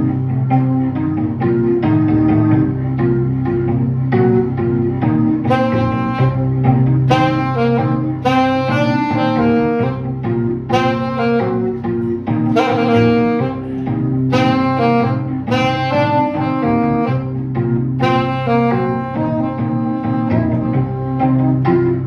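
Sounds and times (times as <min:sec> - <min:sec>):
alto saxophone melody: 0:00.0 - 0:22.0
keyboard accompaniment: 0:00.0 - 0:22.0
low bass notes: 0:00.0 - 0:22.0.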